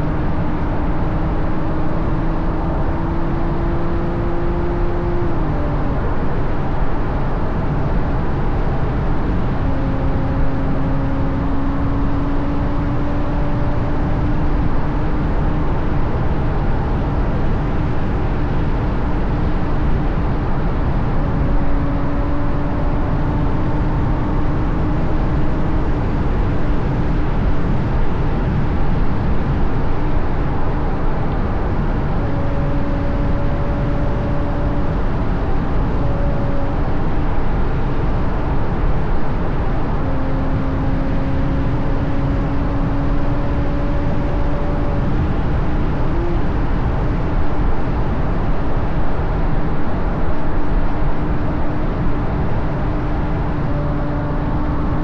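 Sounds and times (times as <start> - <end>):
car engine cruising: 0.0 - 55.0
wind and road noise: 0.0 - 55.0.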